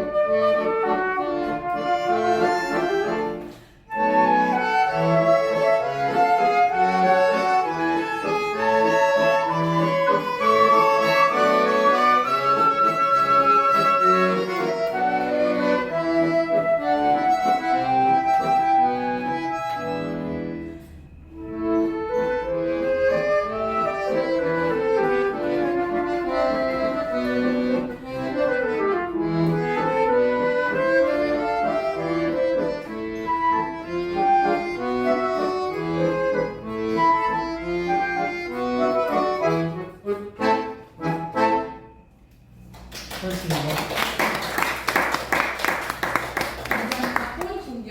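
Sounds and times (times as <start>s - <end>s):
accordion playing: 0.0s - 43.0s, 43.9s - 47.6s.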